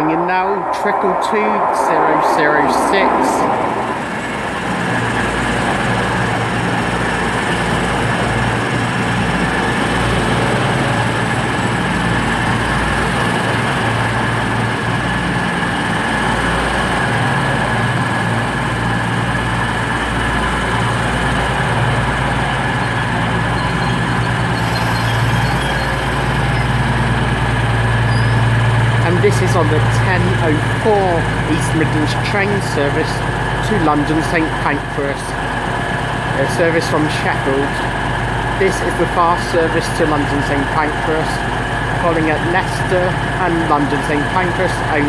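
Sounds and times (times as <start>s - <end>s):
diesel train engine humming: 0.0s - 45.0s.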